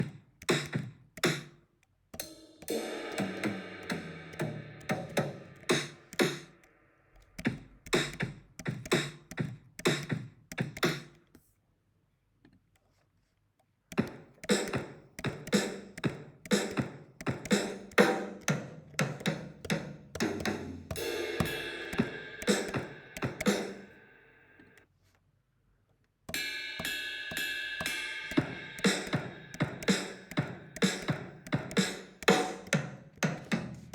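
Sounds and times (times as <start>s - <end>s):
drum kit playing grooves: 0.0s - 1.5s, 2.2s - 11.2s, 13.9s - 24.8s, 26.3s - 33.9s.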